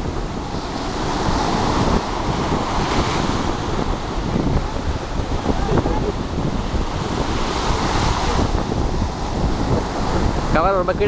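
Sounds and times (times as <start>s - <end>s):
sea waves breaking on shore: 0.0s - 11.0s
wind rumbling on microphone: 0.0s - 11.0s.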